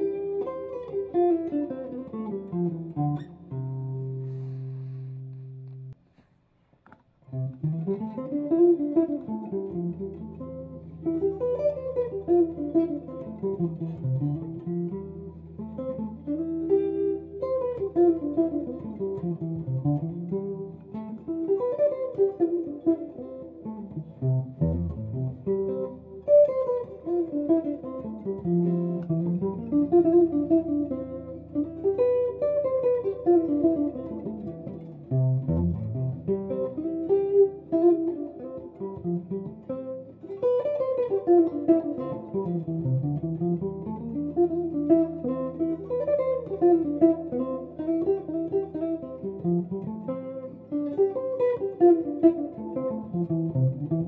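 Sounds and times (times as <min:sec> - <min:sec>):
electric guitar solo: 0:00.0 - 0:06.0, 0:07.2 - 0:54.0.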